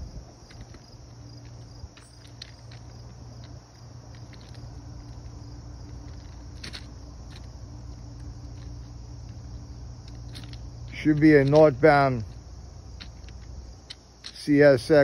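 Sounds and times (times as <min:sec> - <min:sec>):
footsteps on track ballast: 0:00.0 - 0:15.0
insects trilling: 0:00.0 - 0:15.0
low steady rumble: 0:00.0 - 0:15.0.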